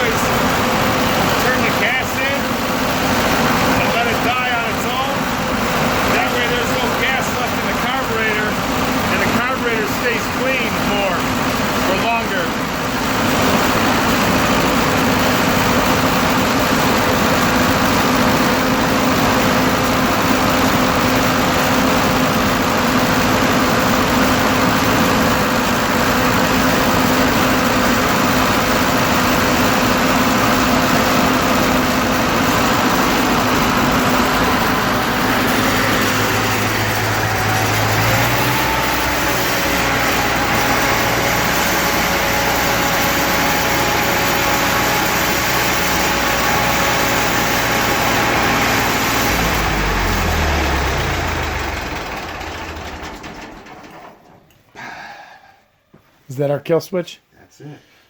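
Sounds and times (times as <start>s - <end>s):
tractor engine running: 0.0s - 54.8s.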